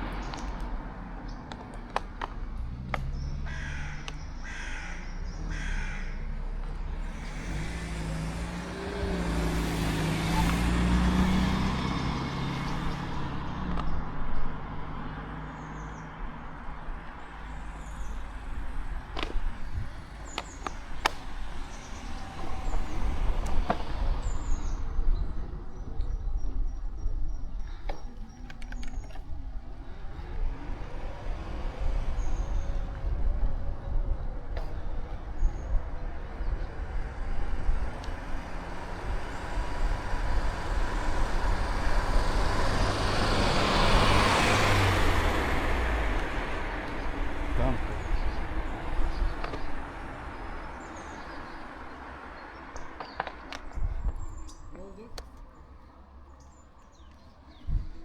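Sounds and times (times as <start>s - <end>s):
bicycle road noise: 0.0s - 58.0s
motor vehicle passing: 0.0s - 58.0s
wind rumble on microphone: 7.3s - 55.4s, 56.4s - 58.0s.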